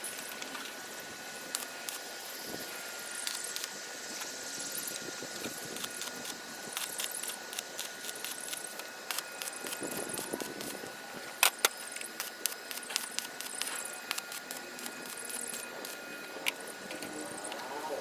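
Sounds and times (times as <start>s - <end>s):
faint high whine: 0.0s - 18.0s
steady hiss: 0.0s - 18.0s.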